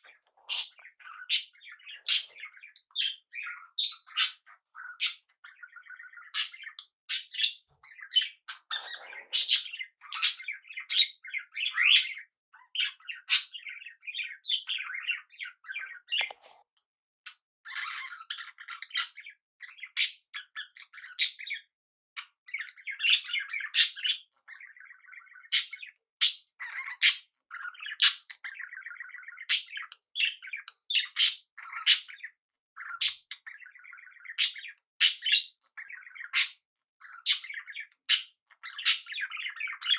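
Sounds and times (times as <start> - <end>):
parrots chirping and chattering: 0.0 - 16.6, 17.7 - 39.9.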